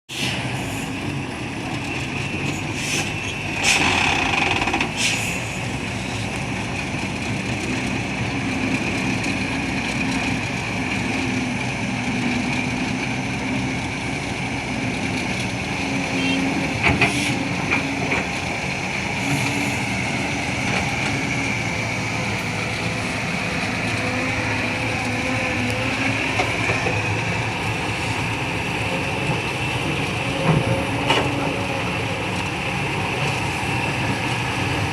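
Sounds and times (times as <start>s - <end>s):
excavator engine running: 0.4s - 34.9s.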